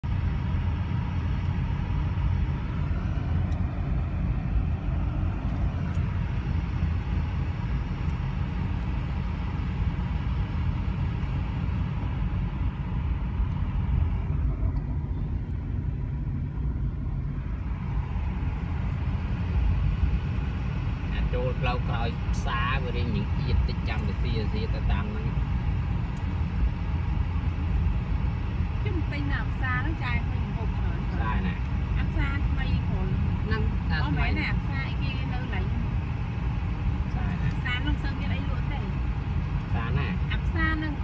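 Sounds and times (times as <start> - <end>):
car cabin rumble: 0.0 - 41.0.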